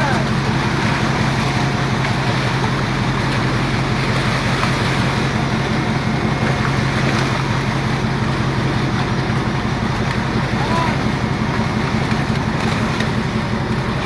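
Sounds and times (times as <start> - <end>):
boat diesel engine humming: 0.0 - 14.0
wind and sea noise: 0.0 - 14.0.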